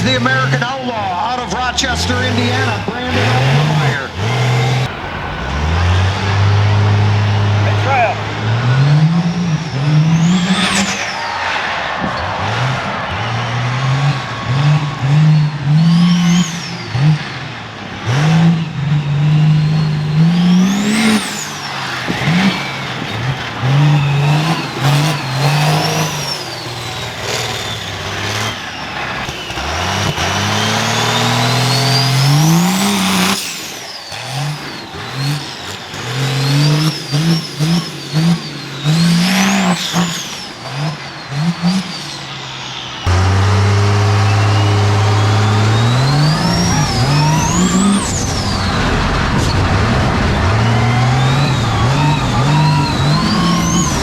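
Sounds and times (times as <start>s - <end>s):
diesel truck engine revving: 0.0s - 54.0s
turbo whistle: 4.8s - 17.5s, 18.6s - 54.0s.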